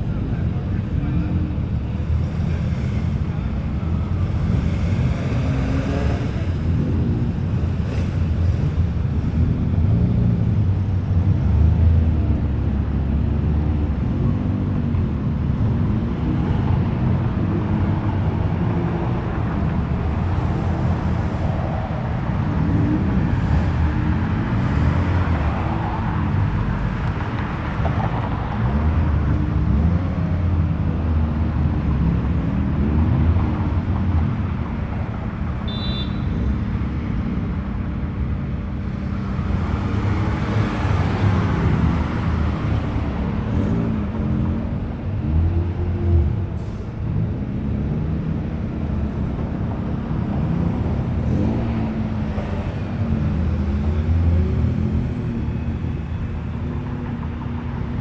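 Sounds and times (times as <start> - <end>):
cars driving slowly past: 0.0 - 58.0.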